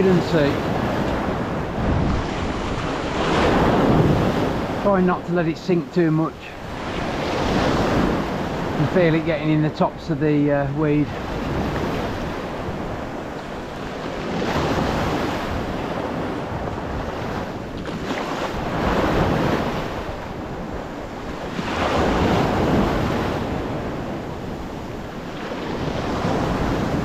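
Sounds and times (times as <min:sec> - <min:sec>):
sea waves breaking: 0:00.0 - 0:27.0
wind buffeting microphone: 0:00.0 - 0:27.0.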